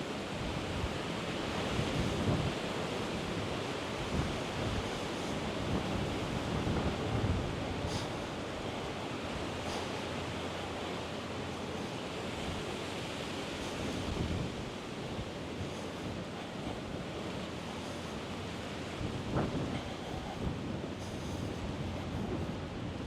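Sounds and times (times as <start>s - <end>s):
wind noise on microphone: 0.0s - 23.0s.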